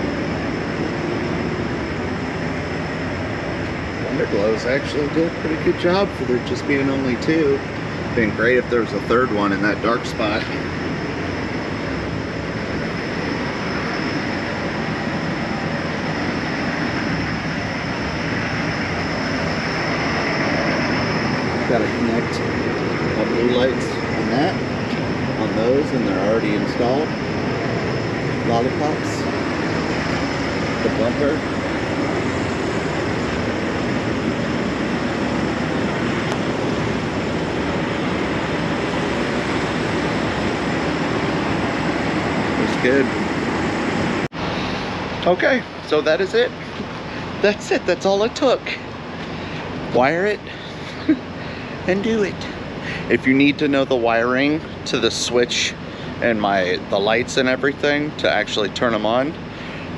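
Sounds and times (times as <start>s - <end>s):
diesel truck engines idling: 0.0s - 59.9s
thin high whine: 0.0s - 59.9s.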